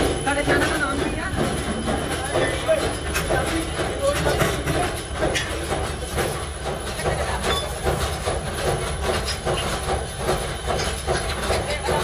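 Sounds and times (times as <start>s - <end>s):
fast rattling clatter: 0.0s - 12.0s
workshop machinery humming: 0.0s - 12.0s.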